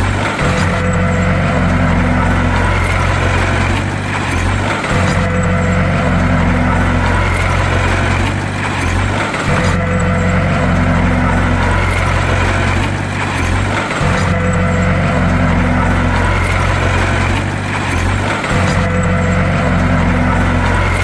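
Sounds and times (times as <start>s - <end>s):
bulldozer engine droning: 0.0s - 21.0s.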